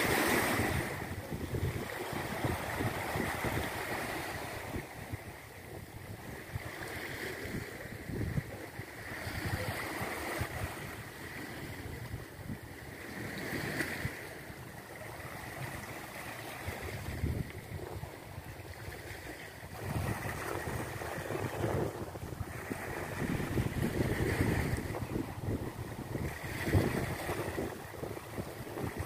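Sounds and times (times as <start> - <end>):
wind buffeting microphone: 0.0 - 14.4, 15.0 - 29.0
waves washing over rocks: 0.0 - 29.0.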